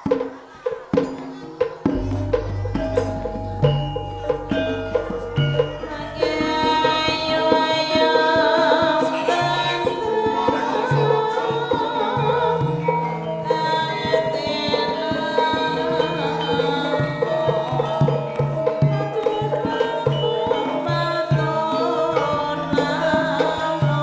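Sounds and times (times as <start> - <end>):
gamelan music: 0.0 - 24.0
hand drum strokes: 0.0 - 24.0.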